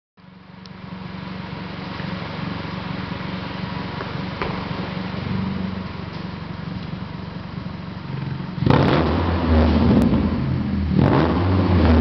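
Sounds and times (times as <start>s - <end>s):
car engine rumbling: 0.2s - 12.0s.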